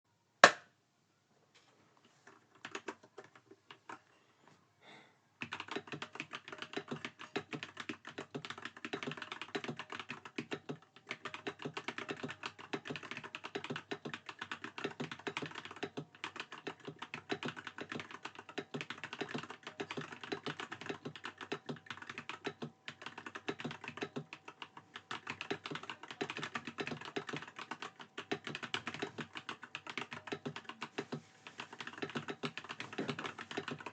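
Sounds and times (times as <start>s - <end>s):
mechanical keyboard typing: 2.3s - 4.0s, 5.4s - 33.9s.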